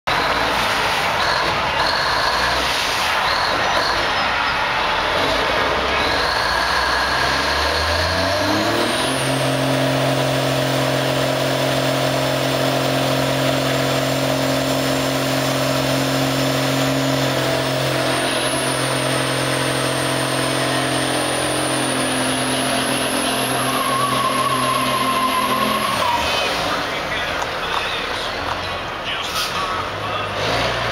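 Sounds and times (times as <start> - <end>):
diesel truck engine revving: 0.1 - 30.9
tires spinning: 0.1 - 30.9.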